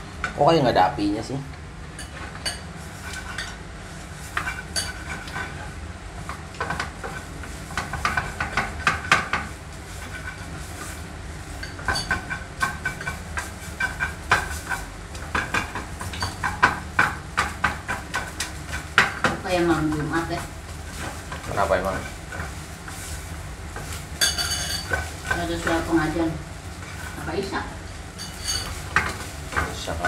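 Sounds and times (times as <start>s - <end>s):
gas burner rush: 0.0s - 30.0s.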